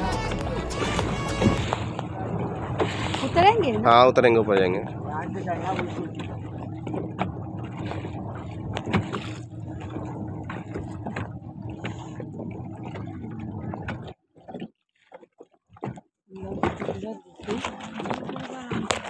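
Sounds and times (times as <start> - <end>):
motorboat engine running: 0.0 - 19.0
wind and water noise: 0.0 - 19.0.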